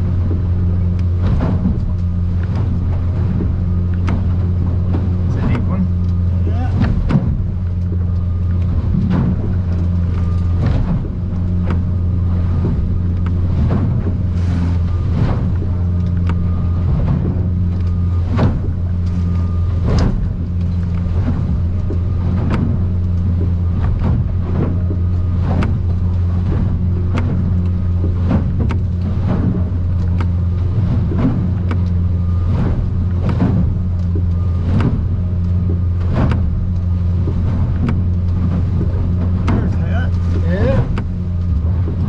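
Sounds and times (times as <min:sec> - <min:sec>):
hull pounding rough water: 0:00.0 - 0:42.0
outboard engine droning: 0:00.0 - 0:42.0.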